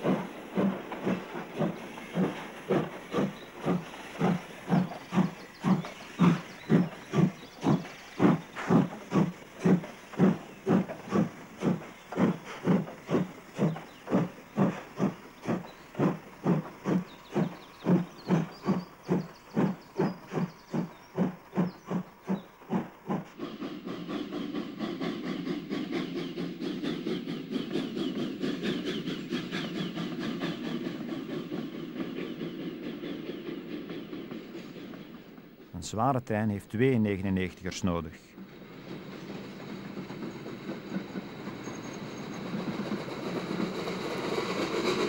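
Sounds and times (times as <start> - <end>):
steam hiss: 0.0 - 45.0
steam locomotive chuffing: 0.0 - 45.0
train rumbling and wheel clatter: 0.0 - 45.0.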